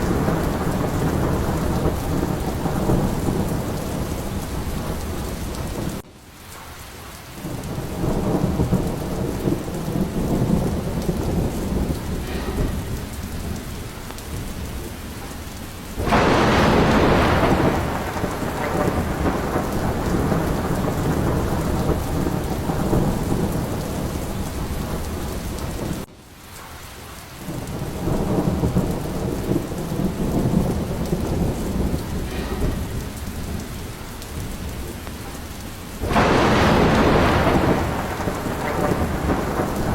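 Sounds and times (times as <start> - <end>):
sharp thunderclap: 0.0 - 6.0, 7.4 - 26.1, 27.4 - 39.9
heavy rain: 0.0 - 39.9
thunder rumbling: 0.0 - 39.9.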